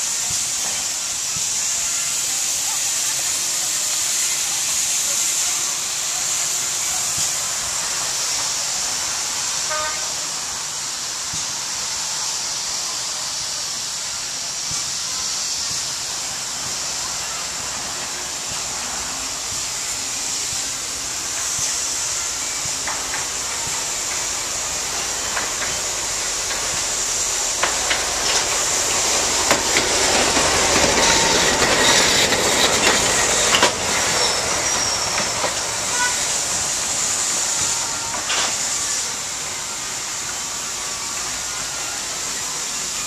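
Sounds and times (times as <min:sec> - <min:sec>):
steam train hissing: 0:00.0 - 0:43.0
train rattling and clicking: 0:00.0 - 0:43.0.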